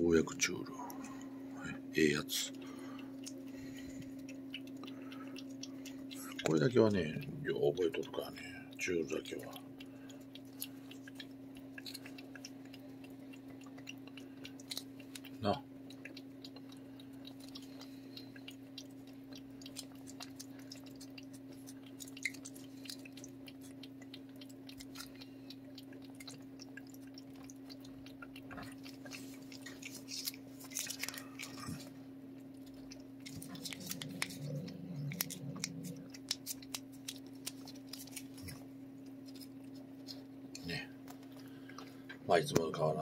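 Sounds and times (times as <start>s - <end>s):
cat licking and chewing: 0.0s - 43.0s
low hum: 0.0s - 43.0s.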